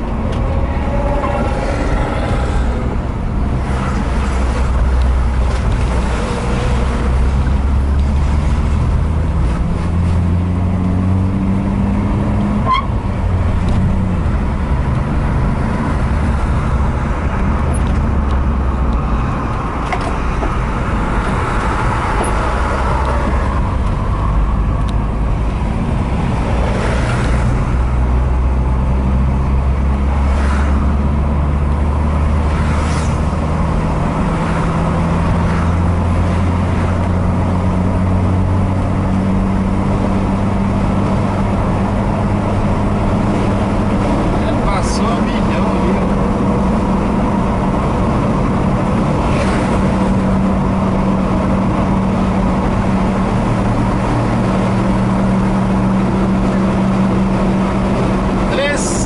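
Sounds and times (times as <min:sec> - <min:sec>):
low engine drone: 0:00.0 - 0:59.0
passing vehicle whooshes: 0:00.0 - 0:59.0
tyre and road noise: 0:00.0 - 0:59.0.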